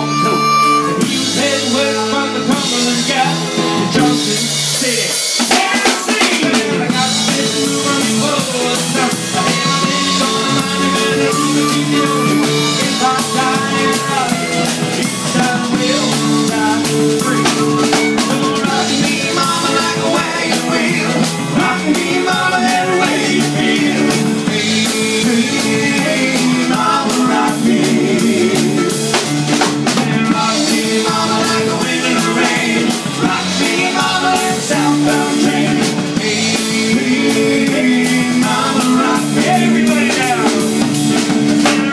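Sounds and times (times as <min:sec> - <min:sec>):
saxophone: 0:00.0 - 0:04.2, 0:05.8 - 0:41.9
drum kit: 0:00.0 - 0:41.9
electric guitar: 0:00.0 - 0:41.9
electric keyboard: 0:00.0 - 0:41.9.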